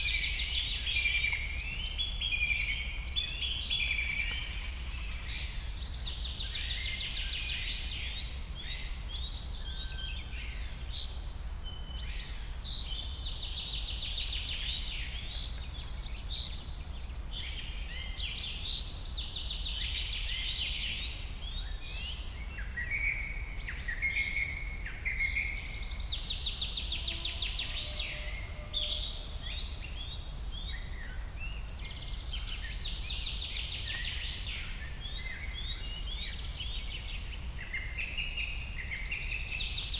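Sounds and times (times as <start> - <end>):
birds singing trilled song: 0.0 - 39.9.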